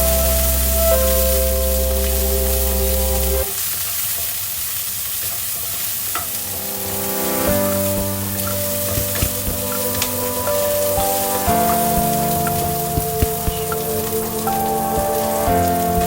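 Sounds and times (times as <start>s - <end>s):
background music: 0.0s - 3.4s, 6.3s - 16.0s
food sizzling in a pan: 0.0s - 16.0s.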